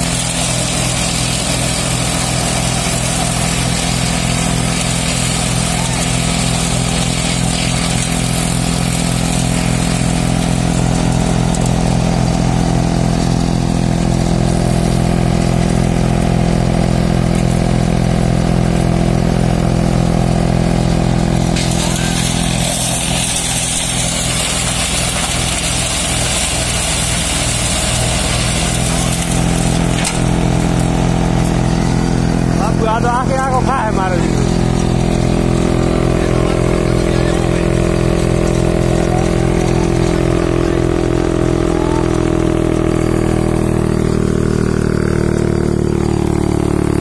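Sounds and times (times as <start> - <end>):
branches grinding in shredder: 0.0 - 47.0
brush shredder engine drone: 0.0 - 47.0.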